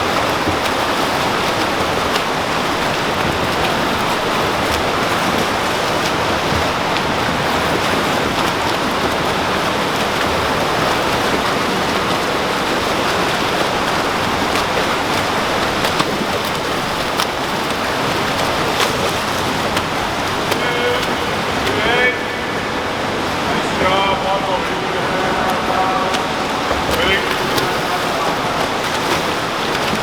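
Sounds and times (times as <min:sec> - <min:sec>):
swimmers splashing in pool: 0:00.0 - 0:30.0.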